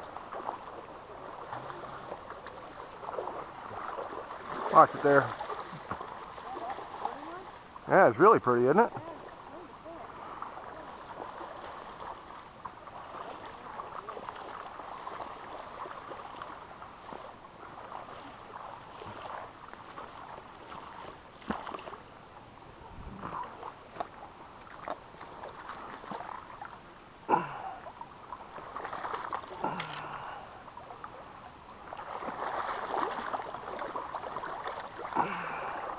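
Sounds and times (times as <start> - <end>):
river water gurgling over rapids: 0.0 - 35.9.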